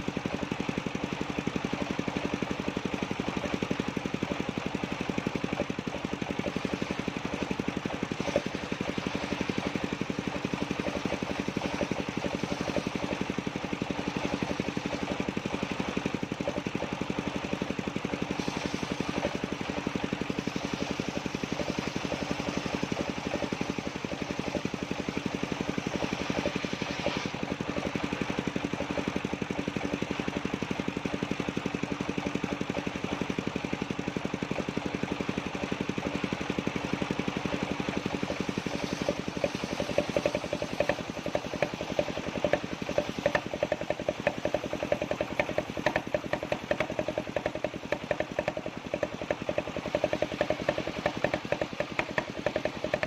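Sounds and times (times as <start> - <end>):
sawmill engine pulsing hum: 0.0 - 53.0
sharp rapid clatter: 0.0 - 53.0.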